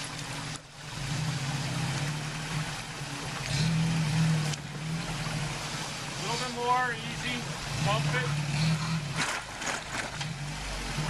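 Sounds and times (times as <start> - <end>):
truck engine revving at low speed: 0.0 - 11.0.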